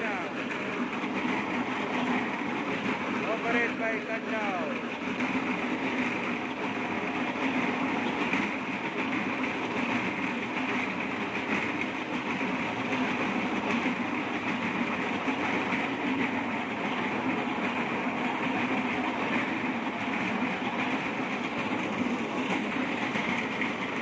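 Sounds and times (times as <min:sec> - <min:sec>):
engine running under load: 0:00.0 - 0:24.0.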